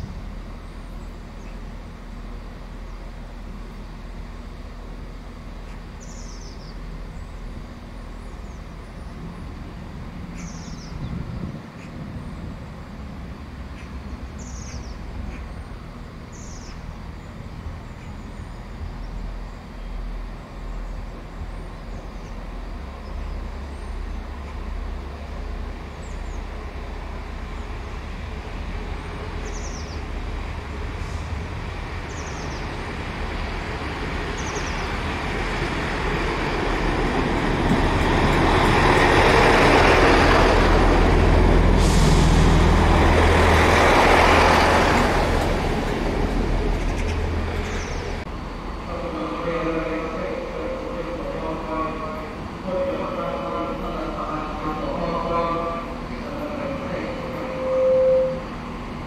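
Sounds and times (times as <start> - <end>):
train engine rumble: 0.0 - 59.0
train running noise: 0.0 - 59.0.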